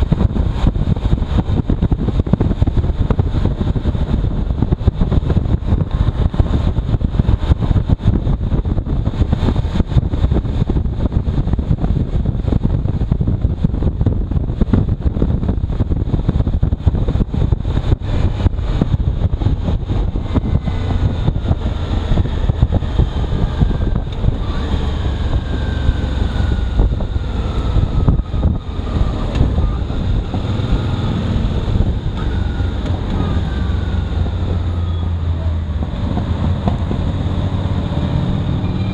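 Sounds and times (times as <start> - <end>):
motorcycle engine and road noise: 0.0 - 38.9
wind buffeting microphone: 0.0 - 38.9.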